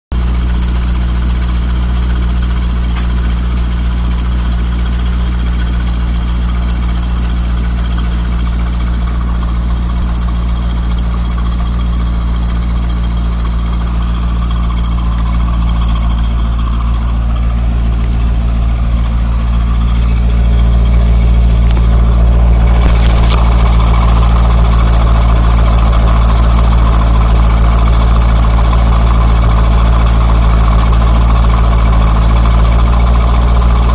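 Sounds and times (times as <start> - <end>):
car engine idling: 0.1 - 33.9.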